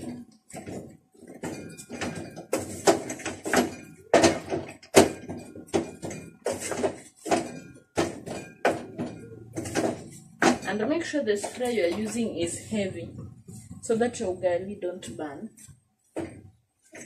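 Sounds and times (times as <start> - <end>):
dough knocking in metal pot: 0.0 - 13.9, 16.1 - 17.0.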